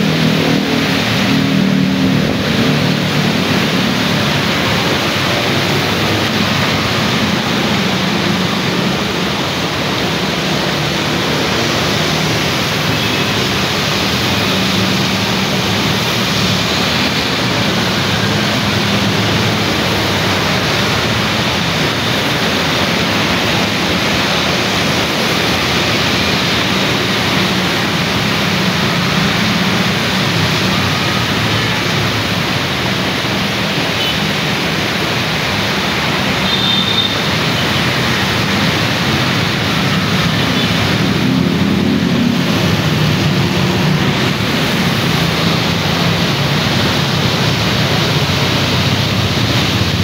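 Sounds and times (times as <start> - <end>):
rain hiss: 0.0 - 50.0
vehicles passing on wet road: 0.0 - 50.0.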